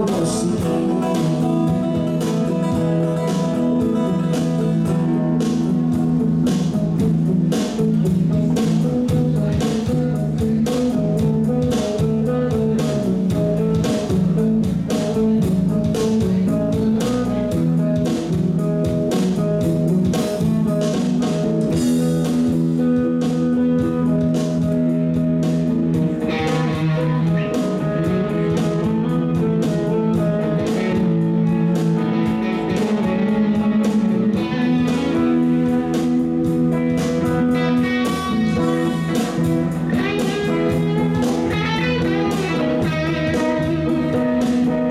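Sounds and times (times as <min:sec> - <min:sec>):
lead guitar line: 0:00.0 - 0:44.9
live rock band instrumental: 0:00.0 - 0:44.9.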